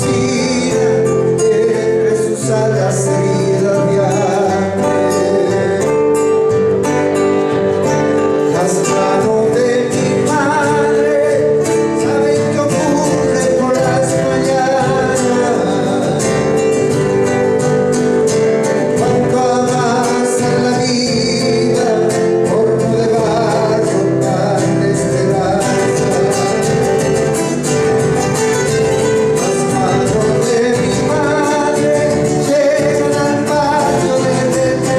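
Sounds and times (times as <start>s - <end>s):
acoustic guitars strumming: 0.0s - 34.9s
man singing: 0.0s - 34.9s.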